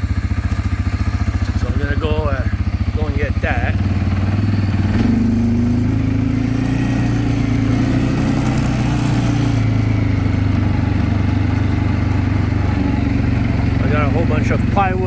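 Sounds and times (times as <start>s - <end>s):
atv engine revving and running: 0.0s - 15.0s.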